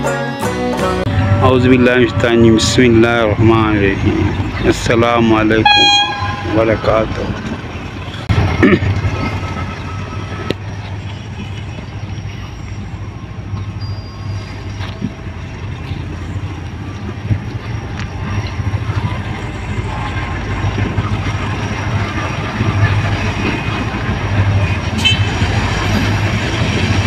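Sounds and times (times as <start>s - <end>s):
diesel locomotive rumble: 0.0s - 27.0s
outdoor background noise: 0.7s - 27.0s.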